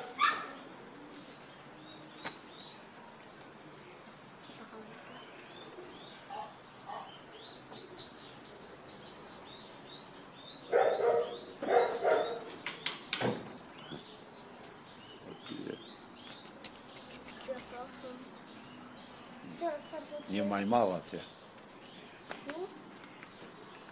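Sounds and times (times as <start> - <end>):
bird chirping: 0.0 - 2.9, 3.7 - 23.9.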